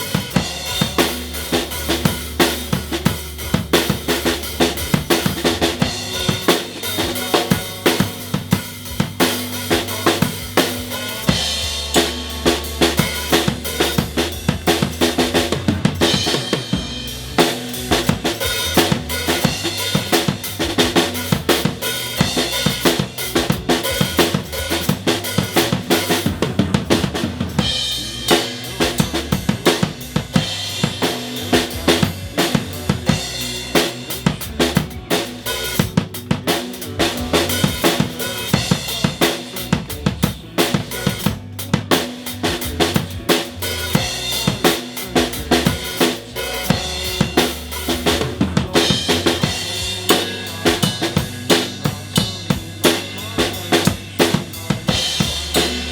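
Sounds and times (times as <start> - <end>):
rock drum kit playing: 0.0 - 55.9.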